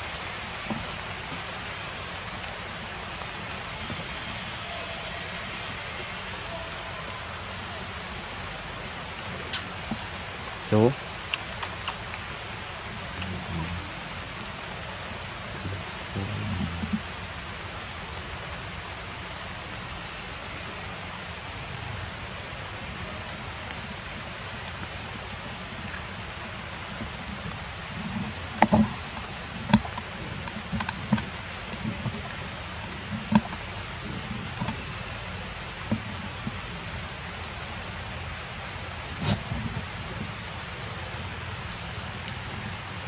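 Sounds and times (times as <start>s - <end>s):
steady outdoor hiss: 0.0s - 43.0s.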